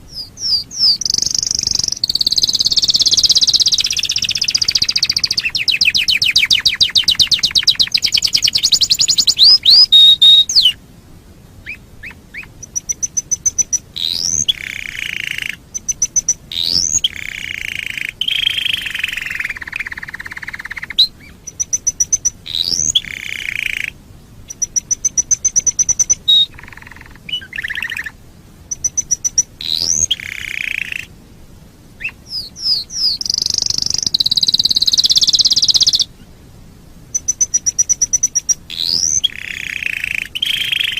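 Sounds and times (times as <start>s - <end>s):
canary singing trills: 0.0s - 10.8s, 11.6s - 31.2s, 32.0s - 36.3s, 37.1s - 40.9s.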